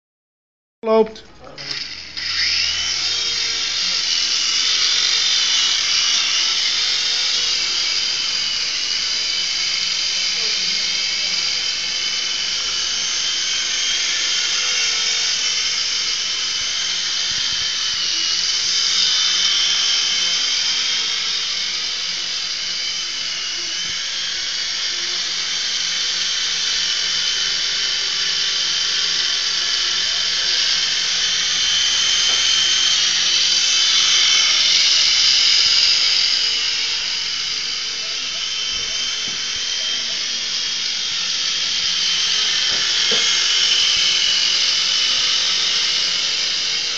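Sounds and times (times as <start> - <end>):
toy helicopter motor whine: 0.9 - 46.9.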